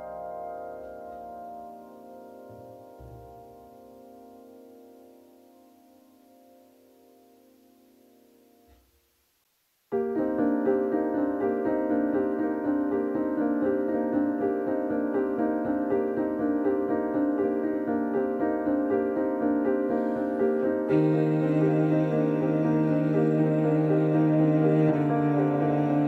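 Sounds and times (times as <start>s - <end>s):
background piano music: 0.0s - 8.8s, 9.9s - 26.0s.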